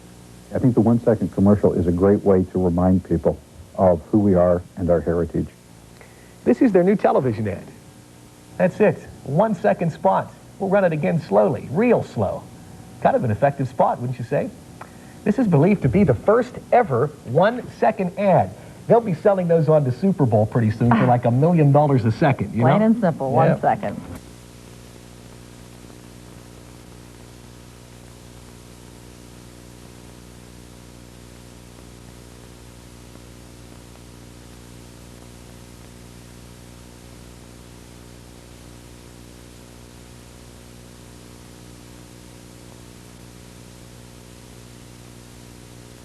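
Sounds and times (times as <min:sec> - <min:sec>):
mains hum: 0:00.0 - 0:46.0
tape hiss: 0:00.0 - 0:46.0.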